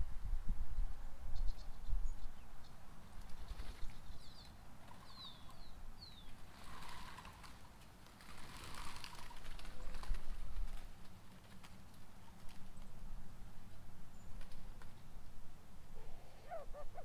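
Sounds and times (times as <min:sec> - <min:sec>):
small birds chirping: 0:01.3 - 0:15.2, 0:15.9 - 0:17.0.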